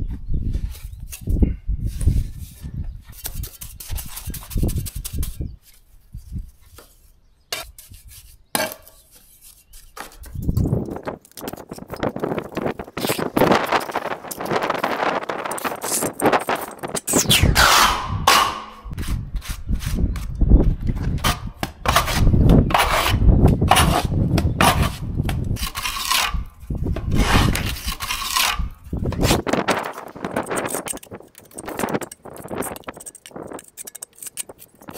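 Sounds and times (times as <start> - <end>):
trowel scraping mortar: 0.6 - 5.5, 6.7 - 20.4, 21.1 - 34.9.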